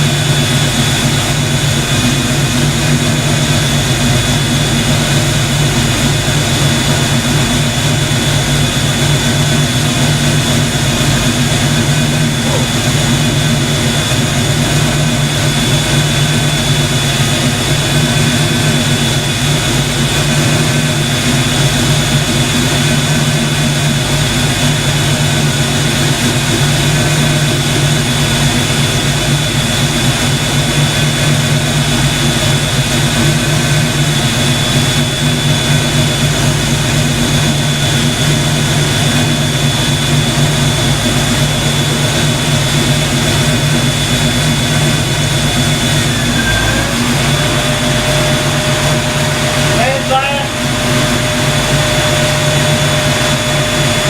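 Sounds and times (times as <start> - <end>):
machine running with high whine: 0.0 - 54.0.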